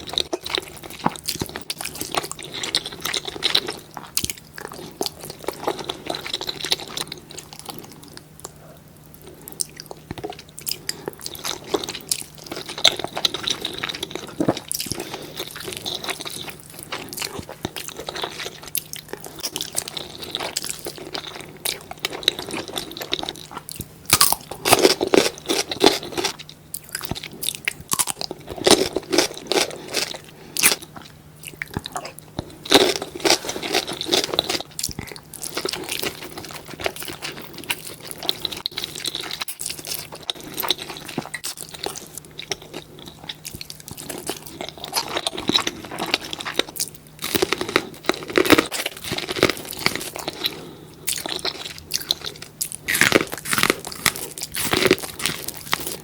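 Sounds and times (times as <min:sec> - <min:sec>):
chewing with crisp crunching: 0:00.0 - 0:56.0.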